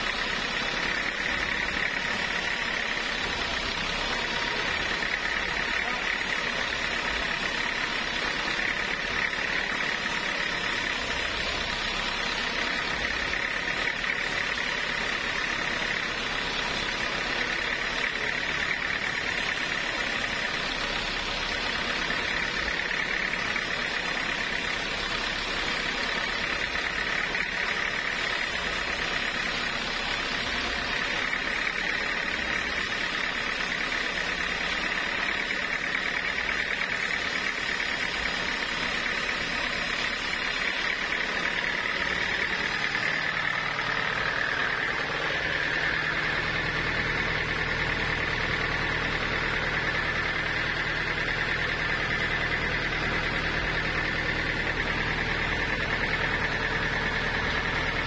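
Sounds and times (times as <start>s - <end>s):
band saw blade cutting wood: 0.0s - 47.8s.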